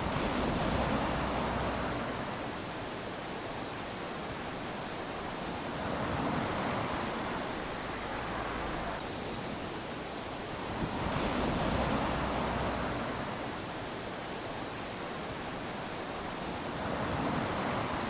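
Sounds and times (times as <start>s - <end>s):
small waves lapping on sand: 0.0s - 18.0s.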